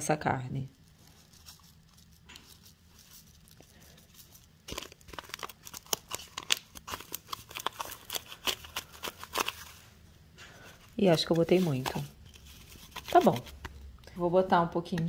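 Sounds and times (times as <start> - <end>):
paper packet tearing and crinkling: 0.8 - 9.9, 10.5 - 13.8.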